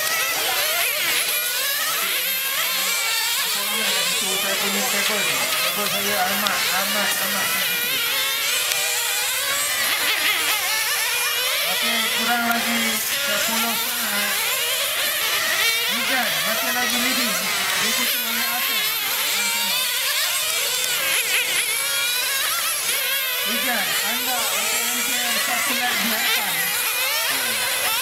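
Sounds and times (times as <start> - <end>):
radio-controlled car motors whining: 0.0 - 28.0.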